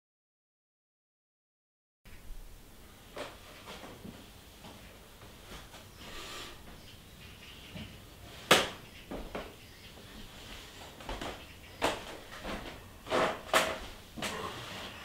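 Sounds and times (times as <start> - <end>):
faint room noise: 2.1 - 15.0.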